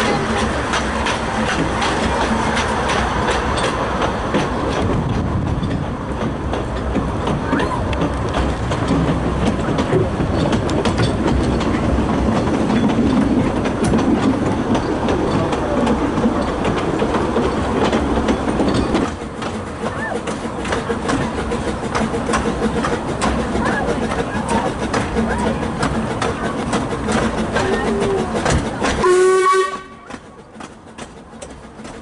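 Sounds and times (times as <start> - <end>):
train coaches rumbling: 0.0 - 32.0
wheels clicking over rail joints: 0.0 - 32.0.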